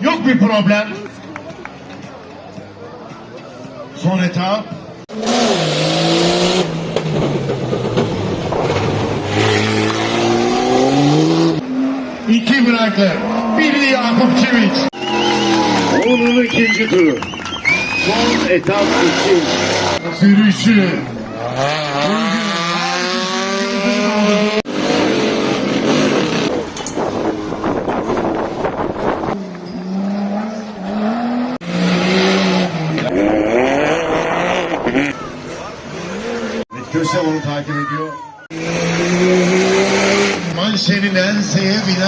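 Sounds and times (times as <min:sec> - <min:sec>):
off-road vehicle engine revving: 0:05.0 - 0:37.2, 0:38.4 - 0:42.0.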